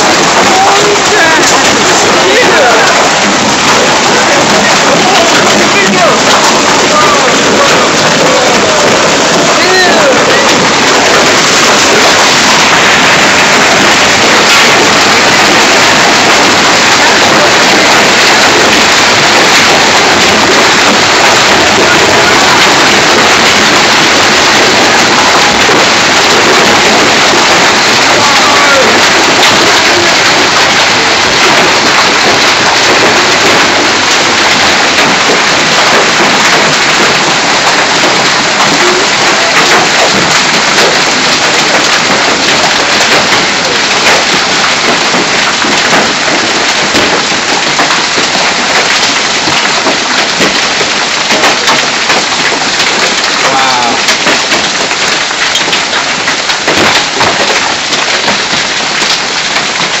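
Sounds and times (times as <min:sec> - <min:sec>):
hailstones cracking on roof: 0:00.0 - 1:00.0
hiss of falling rain: 0:00.0 - 1:00.0.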